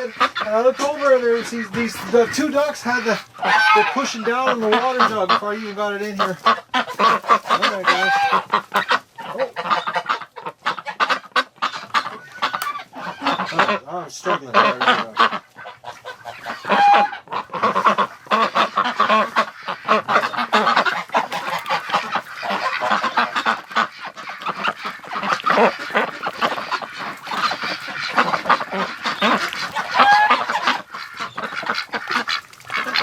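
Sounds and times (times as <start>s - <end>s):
ducks and geese honking and quacking: 0.0s - 33.0s.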